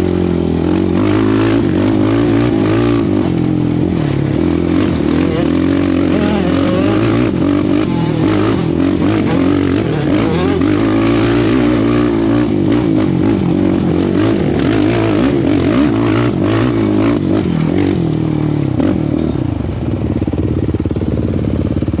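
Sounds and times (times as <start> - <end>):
engine clatter: 0.0 - 22.0
quad bike engine revving: 0.0 - 22.0.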